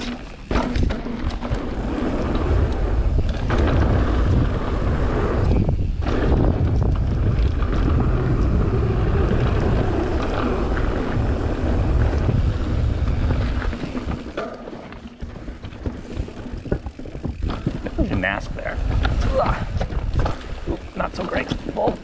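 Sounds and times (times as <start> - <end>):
wind buffeting microphone: 0.0 - 14.4, 15.0 - 22.0
bike clicks and rattles: 0.0 - 22.0
bike tyres rolling on dirt: 0.0 - 22.0.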